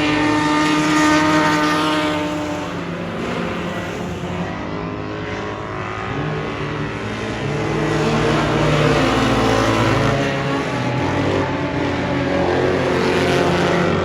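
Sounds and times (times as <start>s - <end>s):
race car engine running hard: 0.0s - 14.0s.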